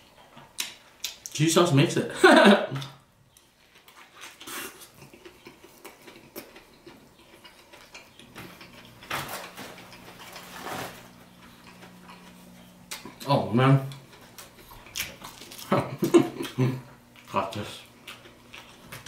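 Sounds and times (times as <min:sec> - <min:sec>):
low steady hum: 0:00.0 - 0:19.0
man chewing: 0:02.8 - 0:13.3, 0:13.9 - 0:19.0.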